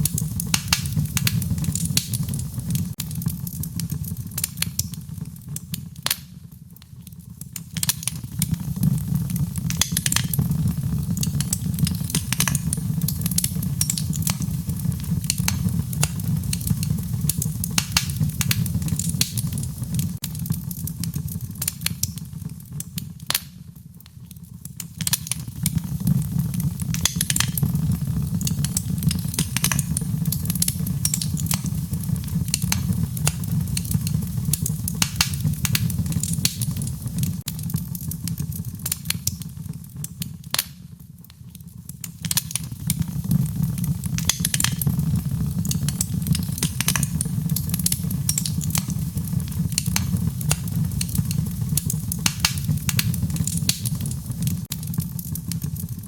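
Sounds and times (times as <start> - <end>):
low rumble of burning: 0.0 - 56.0
wood fire crackling and popping: 0.0 - 56.0.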